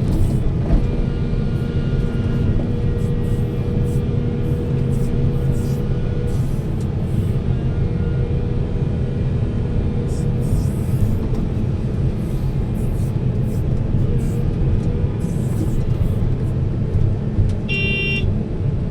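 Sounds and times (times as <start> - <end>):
heavy diesel machinery rumbling: 0.0 - 18.9.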